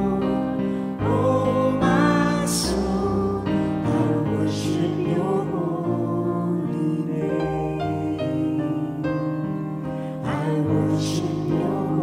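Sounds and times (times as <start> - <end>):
piano accompaniment: 0.0 - 12.0
vocal group singing worship song: 0.0 - 12.0.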